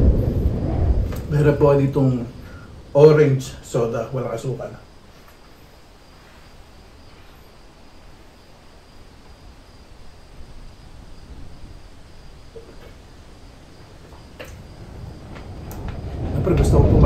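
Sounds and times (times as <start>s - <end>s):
faint high-pitched whine: 0.0s - 17.0s
strong snowstorm wind: 0.0s - 17.0s.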